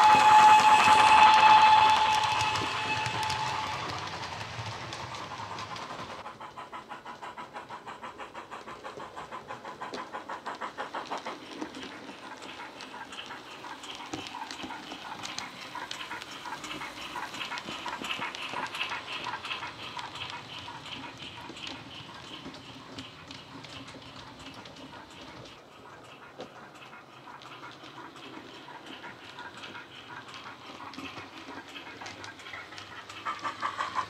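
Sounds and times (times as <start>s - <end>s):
model steam locomotive chuffs: 0.0s - 34.0s.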